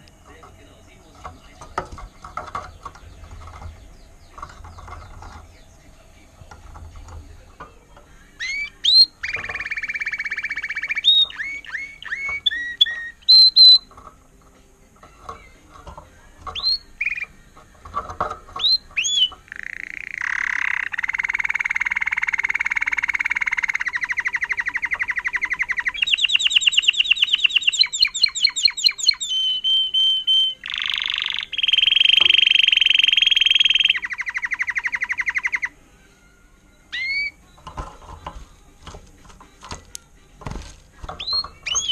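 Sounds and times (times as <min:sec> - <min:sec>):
canary singing: 0:00.0 - 0:41.9.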